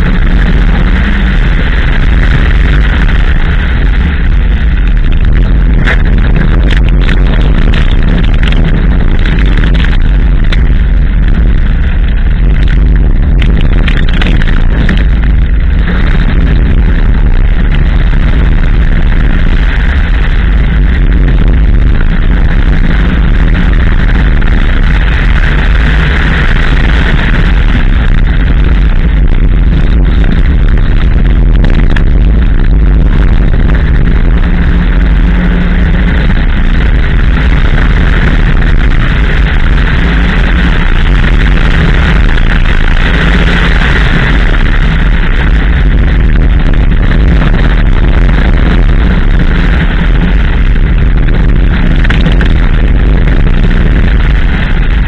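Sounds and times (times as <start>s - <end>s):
car engine: 0.0s - 55.0s
tyres rumbling on gravel: 0.0s - 55.0s
wind buffeting microphone: 0.0s - 55.0s.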